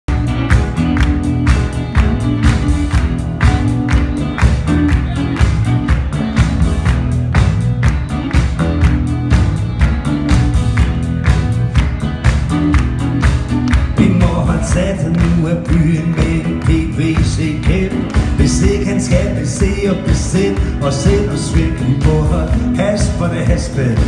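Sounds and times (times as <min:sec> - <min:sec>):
live rock band playing: 0:00.1 - 0:24.0.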